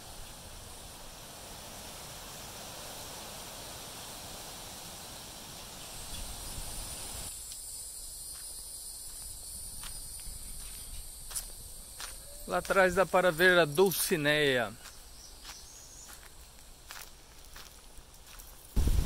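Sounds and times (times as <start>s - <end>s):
high drone of insects: 0.0s - 19.0s
wind blowing through trees: 0.0s - 19.0s.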